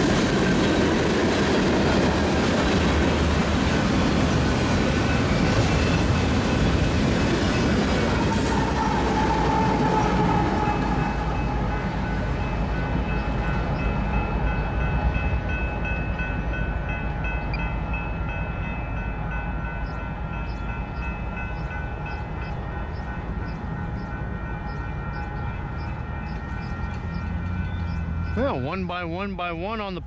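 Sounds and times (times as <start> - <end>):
freight train rumble: 0.0 - 30.0.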